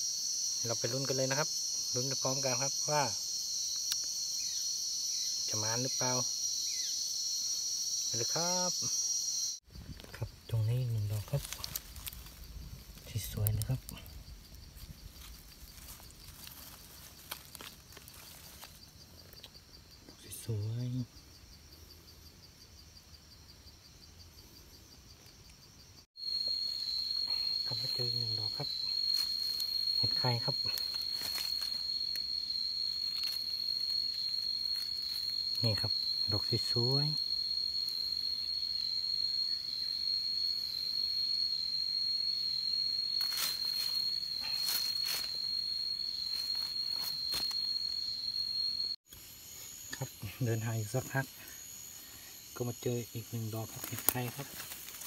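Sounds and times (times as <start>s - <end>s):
insect chirping in pulses: 0.0s - 55.0s.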